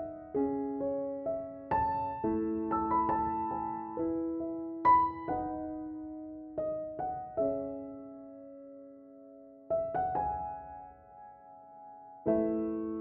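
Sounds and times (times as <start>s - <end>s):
slow solo piano: 0.0s - 13.0s.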